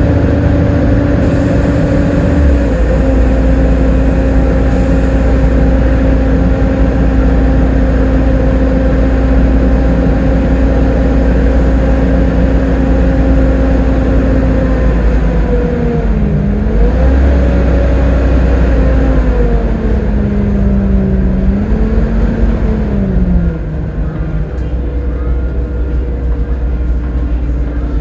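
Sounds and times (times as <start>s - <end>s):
bus drivetrain whine: 0.0s - 28.0s
bus engine low rumble: 0.0s - 28.0s.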